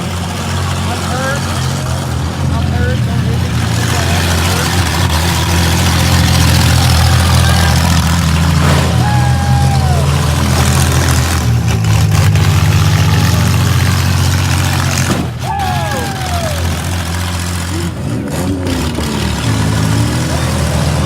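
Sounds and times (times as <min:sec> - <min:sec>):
engines revving loudly: 0:00.0 - 0:21.0.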